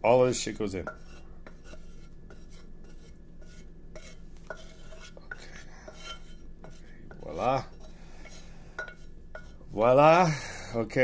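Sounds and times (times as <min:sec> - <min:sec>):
utensil scraping a pot: 0:00.4 - 0:09.8.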